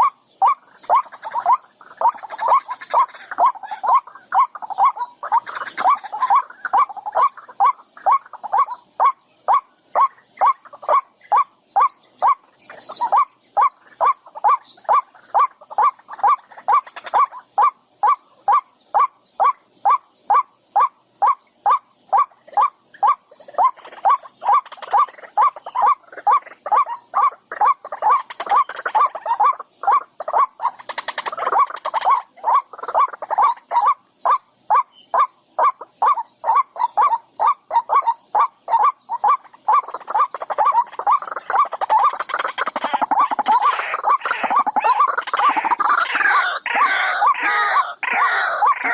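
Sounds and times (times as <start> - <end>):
faint high chirping: 0.0 - 48.9.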